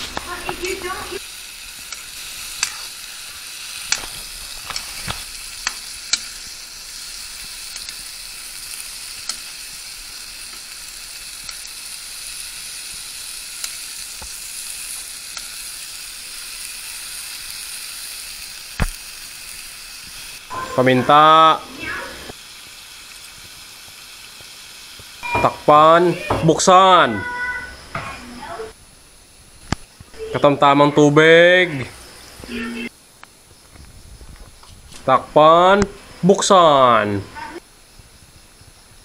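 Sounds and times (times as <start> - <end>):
vegetables sizzling in a wok: 0.0 - 39.0.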